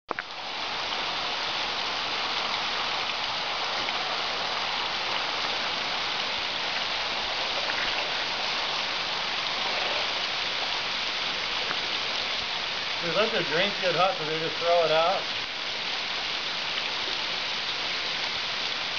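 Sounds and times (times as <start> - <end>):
thin waterfall trickling: 0.1 - 18.9.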